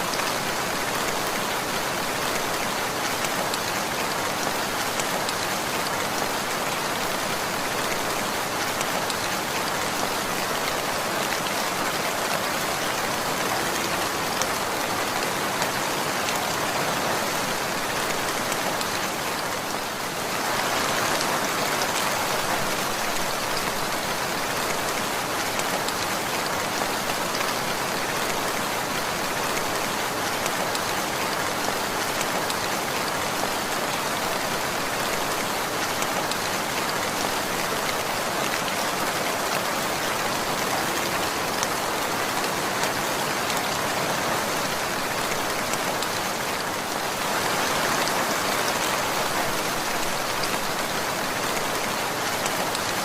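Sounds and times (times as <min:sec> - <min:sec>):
rain patter: 0:00.0 - 0:53.0.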